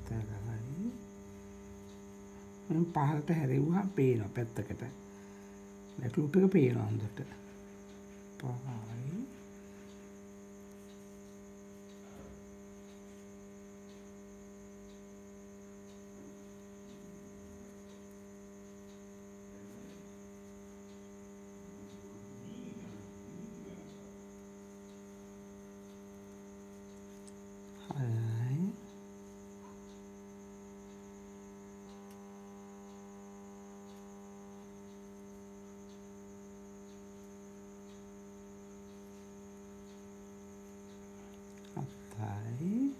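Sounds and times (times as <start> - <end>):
electrical mains hum: 0.0 - 42.9.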